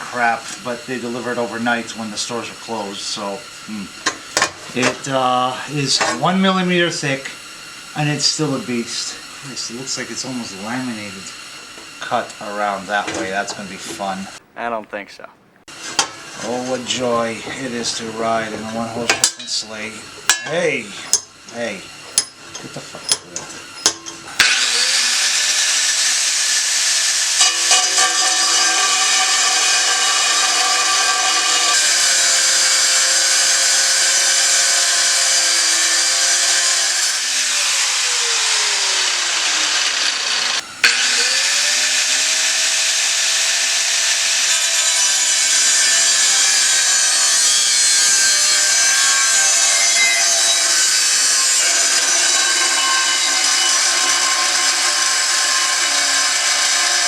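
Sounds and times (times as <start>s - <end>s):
grinder cutting sheet steel: 0.0s - 14.4s, 15.7s - 57.0s.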